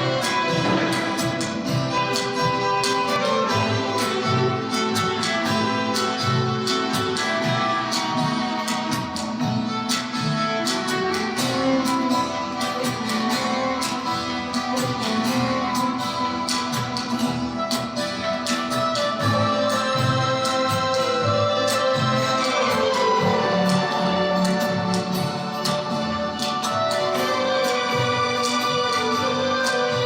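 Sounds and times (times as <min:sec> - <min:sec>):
latin dance music with guitar: 0:00.0 - 0:30.0.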